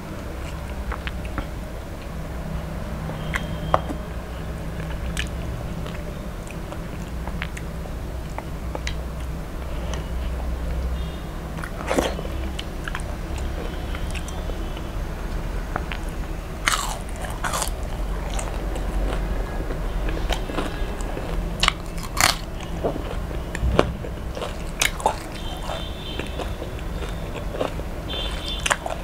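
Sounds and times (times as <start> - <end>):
steady low hum: 0.0 - 29.0
chewing: 3.1 - 4.0, 4.8 - 11.0, 11.6 - 29.0.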